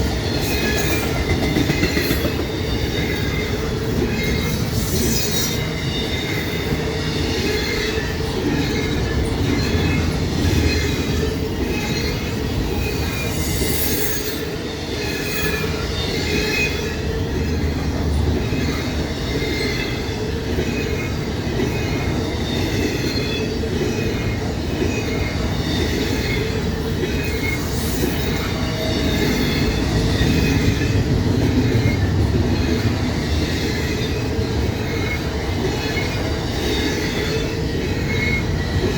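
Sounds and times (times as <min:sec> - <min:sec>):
freight train cars rolling: 0:00.0 - 0:38.9
wheels squealing against rails: 0:00.0 - 0:38.9.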